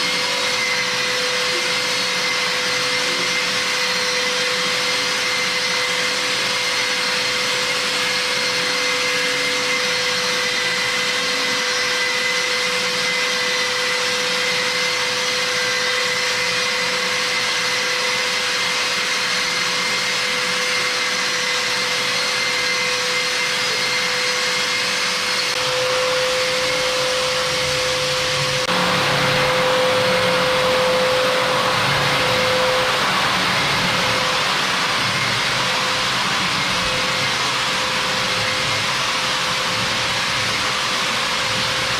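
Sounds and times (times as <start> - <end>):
sander whining: 0.0 - 41.9.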